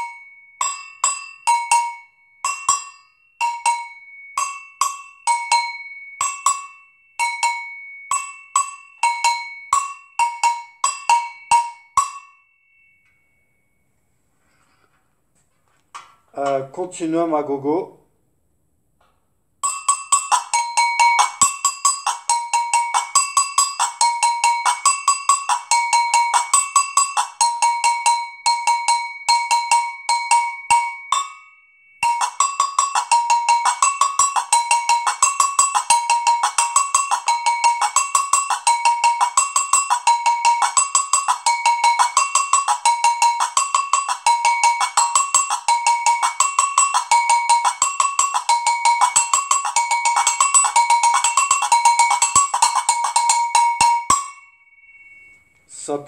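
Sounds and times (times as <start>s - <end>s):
agogo bells struck with stick: 0.0s - 13.2s, 19.6s - 55.5s.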